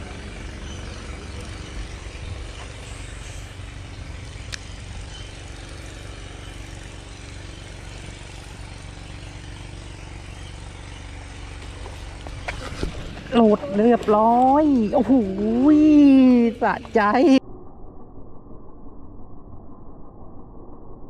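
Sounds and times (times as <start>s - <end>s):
engine humming: 0.0s - 17.4s.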